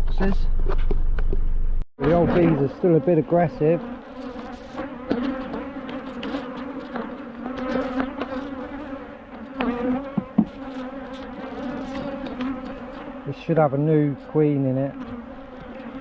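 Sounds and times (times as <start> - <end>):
honeybees buzzing: 2.0 - 16.0.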